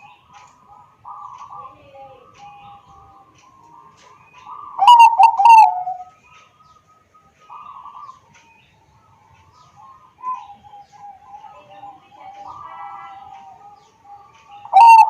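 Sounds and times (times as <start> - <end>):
dove cooing: 0.0 - 6.2, 7.4 - 8.3, 9.8 - 15.0.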